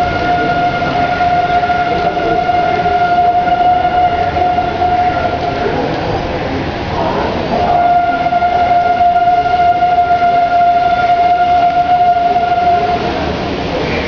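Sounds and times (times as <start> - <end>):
steady horn-like tone: 0.0 - 6.0, 7.0 - 14.0
steady rain: 0.0 - 14.0
wind: 0.0 - 14.0.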